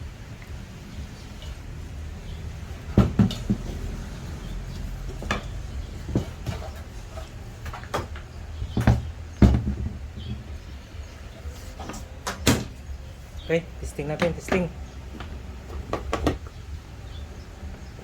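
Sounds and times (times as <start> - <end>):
hard tools knocking and clacking: 1.0 - 13.0, 13.9 - 16.8.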